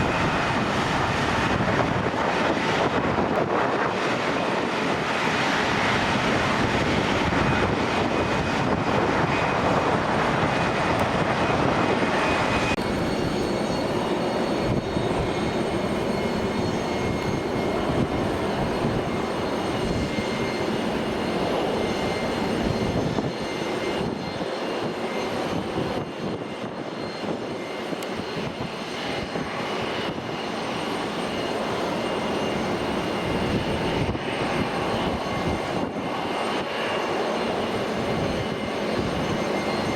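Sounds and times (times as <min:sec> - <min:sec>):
airplane engine noise: 0:00.0 - 0:39.9.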